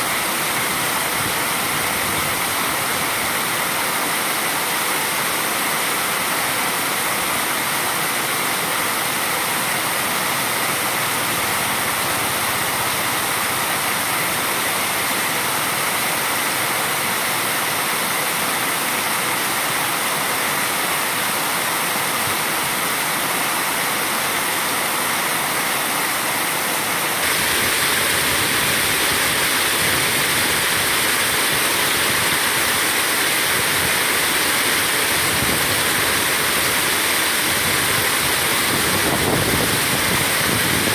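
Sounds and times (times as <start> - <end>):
water splashing over a weir: 0.0 - 40.9.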